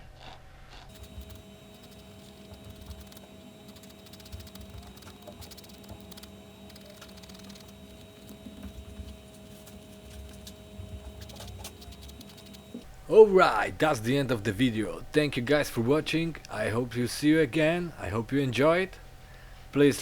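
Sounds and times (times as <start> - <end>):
steady low hum: 0.9 - 20.0.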